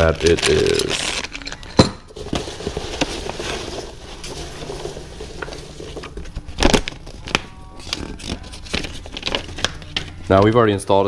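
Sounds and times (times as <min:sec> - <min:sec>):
paper sheet rustling: 0:00.0 - 0:01.4, 0:02.1 - 0:10.6
rummaging through packing peanuts: 0:00.0 - 0:10.5.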